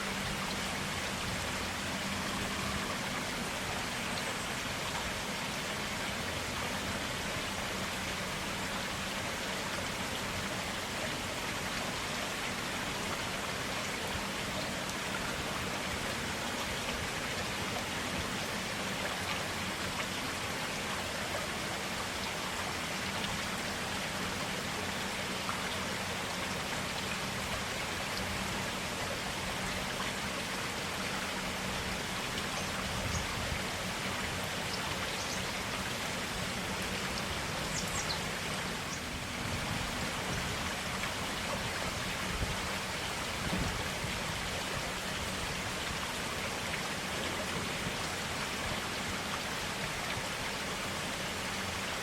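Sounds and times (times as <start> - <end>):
forest stream running: 0.0 - 52.0.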